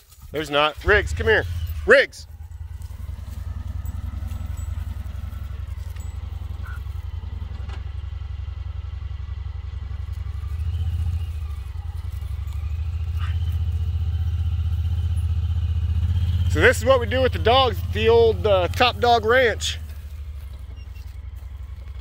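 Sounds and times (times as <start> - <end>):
engine running at low revs: 0.0 - 22.0.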